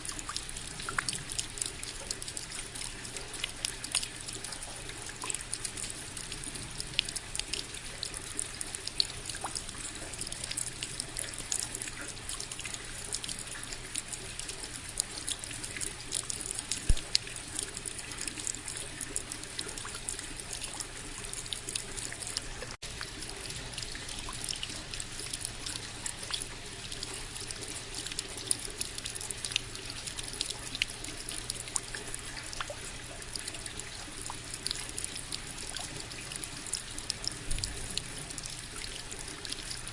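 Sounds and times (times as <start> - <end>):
raindrops ticking: 0.0 - 39.9
steady rain: 0.0 - 39.9.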